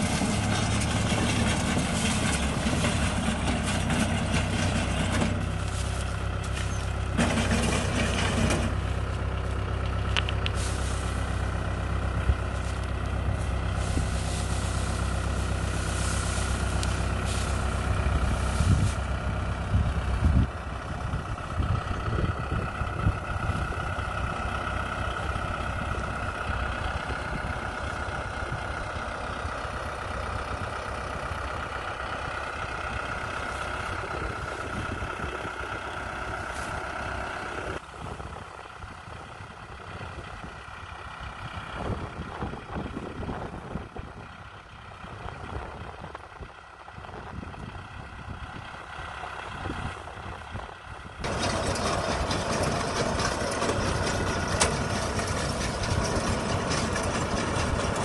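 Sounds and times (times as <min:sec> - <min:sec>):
tractor diesel engine: 0:00.0 - 0:58.0.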